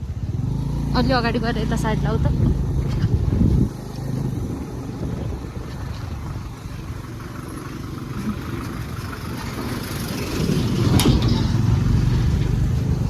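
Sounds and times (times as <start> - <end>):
vehicle engine on dirt road: 0.0 - 13.0.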